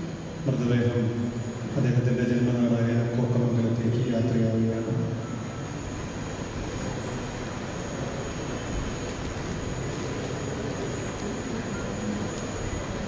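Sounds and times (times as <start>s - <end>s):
faint high whine: 0.0s - 13.0s
rushing hall background noise: 0.0s - 13.0s.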